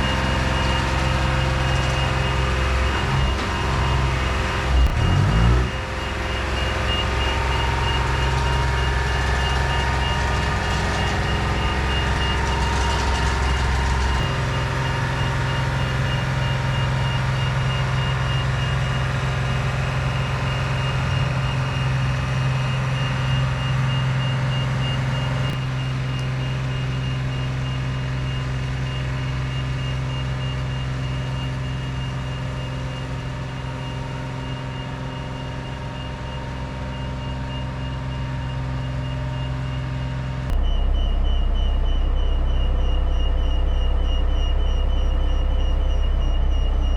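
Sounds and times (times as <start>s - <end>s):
engine running: 0.0s - 46.9s
reversing alarm beeping: 0.0s - 46.9s.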